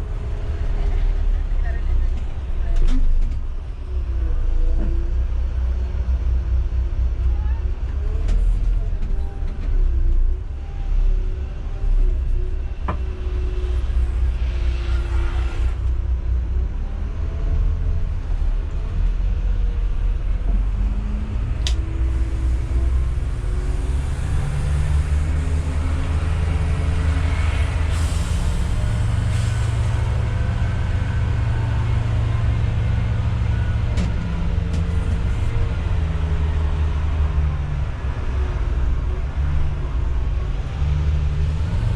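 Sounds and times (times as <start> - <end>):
diesel engine drone: 0.0 - 41.9.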